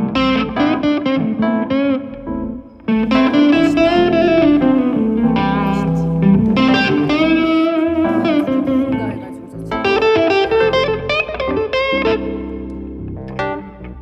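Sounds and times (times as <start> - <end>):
electric guitar bending lead notes: 0.0 - 14.0
band music: 1.9 - 13.8.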